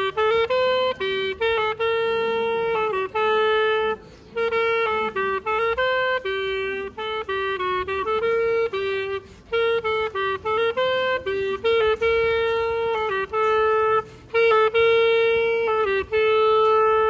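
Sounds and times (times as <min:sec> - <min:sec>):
clarinet playing slow melody: 0:00.0 - 0:17.0.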